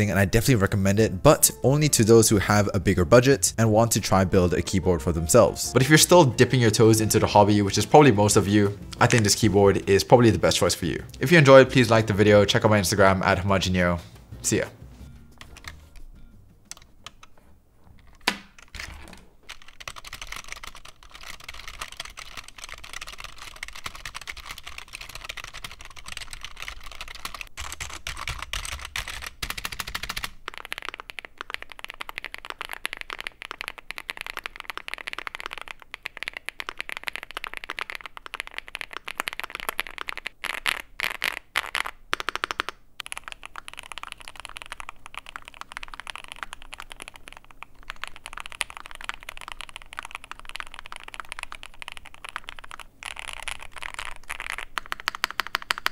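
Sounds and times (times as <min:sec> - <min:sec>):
fast keyboard typing: 0:00.0 - 0:13.3, 0:15.4 - 0:16.0, 0:16.7 - 0:17.3, 0:19.4 - 0:55.9.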